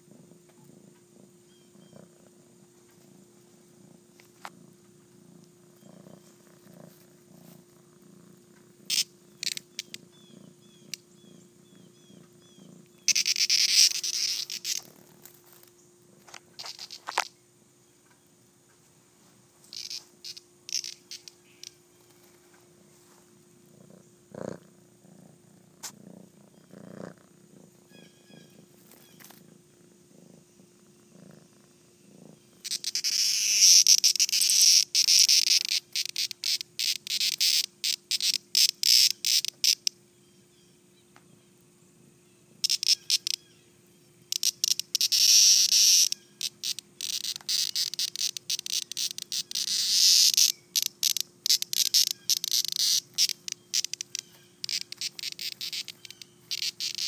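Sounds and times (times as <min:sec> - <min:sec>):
cicada distress buzz: 0:00.0 - 0:17.4, 0:19.6 - 0:22.2, 0:25.2 - 0:40.8, 0:41.4 - 0:57.0.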